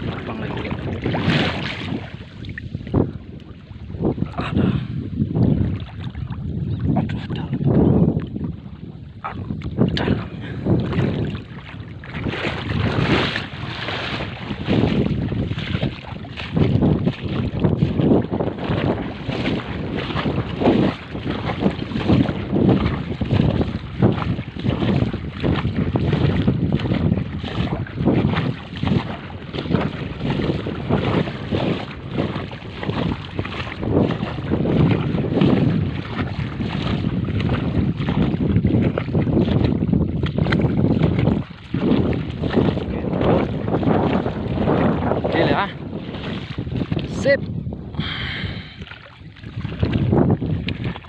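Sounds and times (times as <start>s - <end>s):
water sloshing: 0.0s - 4.8s, 5.4s - 47.6s, 48.3s - 51.0s
wind buffeting microphone: 0.0s - 51.0s.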